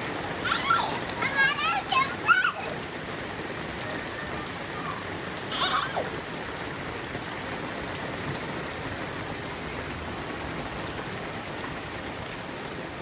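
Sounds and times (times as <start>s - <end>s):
heavy rain splashing: 0.0s - 13.0s.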